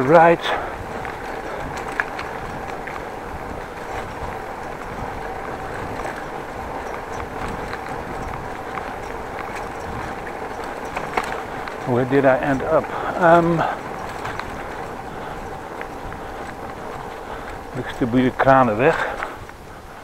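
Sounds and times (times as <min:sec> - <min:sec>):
bicycle rolling on street: 0:00.0 - 0:20.0
faint clicks and rattles: 0:00.0 - 0:20.0.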